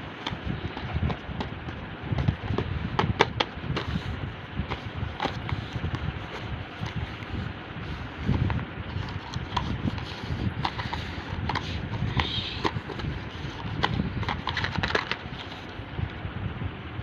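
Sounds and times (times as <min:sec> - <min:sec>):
packaging clicks and taps: 0:00.2 - 0:04.1, 0:04.7 - 0:07.4, 0:08.2 - 0:15.6.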